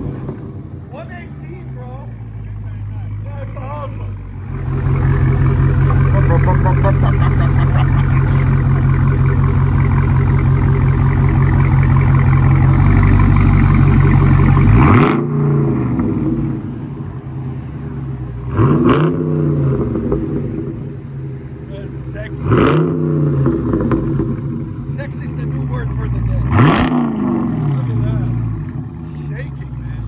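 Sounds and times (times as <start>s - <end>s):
car engine revving: 1.6s - 30.0s.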